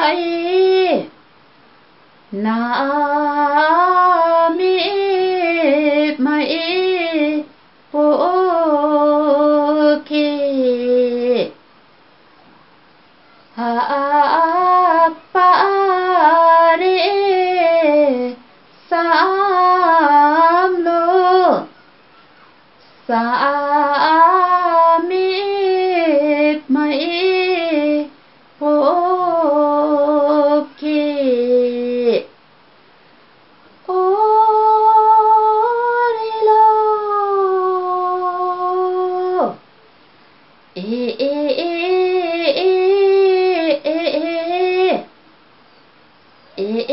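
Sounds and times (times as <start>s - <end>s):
woman singing unaccompanied: 0.0s - 1.3s, 2.3s - 11.7s, 13.4s - 22.0s, 22.8s - 32.4s, 33.8s - 39.7s, 40.7s - 45.2s, 46.5s - 46.9s.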